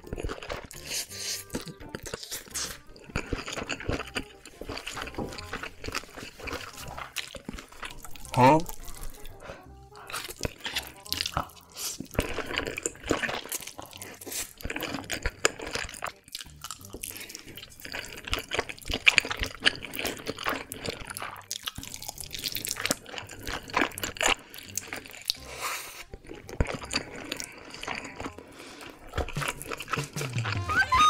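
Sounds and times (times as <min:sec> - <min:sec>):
slurping noodles: 0:00.0 - 0:30.7
chewing mouth sounds: 0:00.0 - 0:30.8.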